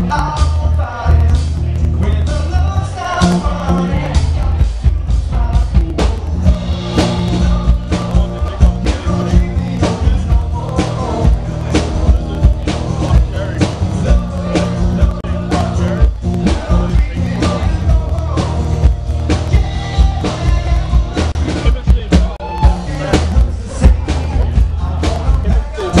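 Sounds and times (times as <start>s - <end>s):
drums beating: 0.0s - 26.0s
electric guitar: 0.0s - 26.0s
man singing: 0.0s - 26.0s.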